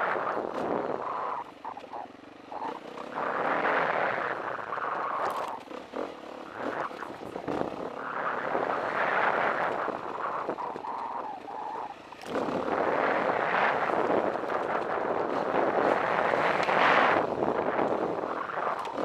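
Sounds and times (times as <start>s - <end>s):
dirt bike engine running: 0.0s - 19.0s
wind rushing over microphone: 0.0s - 19.0s.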